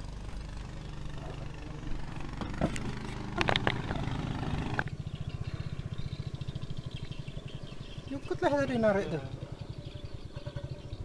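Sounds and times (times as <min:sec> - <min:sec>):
small engine puttering: 0:00.0 - 0:11.0.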